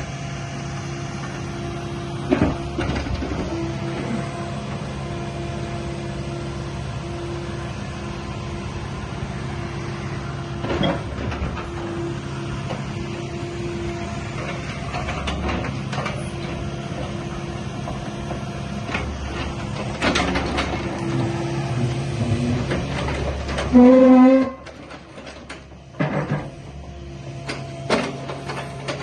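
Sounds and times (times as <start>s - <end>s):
engine whine: 0.0s - 29.0s
excavator diesel engine running: 0.0s - 29.0s.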